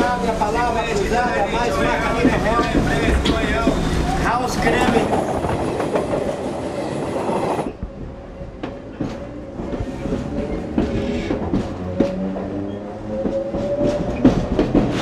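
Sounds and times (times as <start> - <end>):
passing train rush: 0.0 - 15.0
train carriage whine: 0.0 - 15.0.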